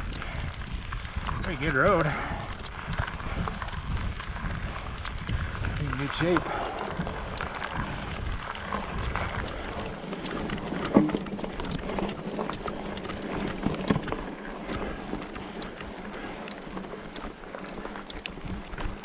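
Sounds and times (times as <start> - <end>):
bike tyres rolling on dirt road: 0.0 - 19.0
ticks of grit and gravel: 0.0 - 19.0
wind buffeting microphone: 0.0 - 19.0.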